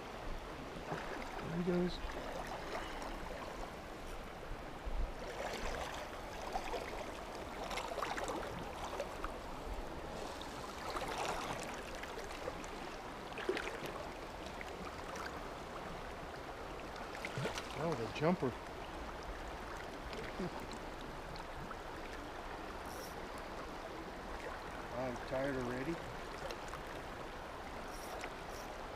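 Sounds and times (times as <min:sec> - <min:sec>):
river water flowing: 0:00.0 - 0:28.9.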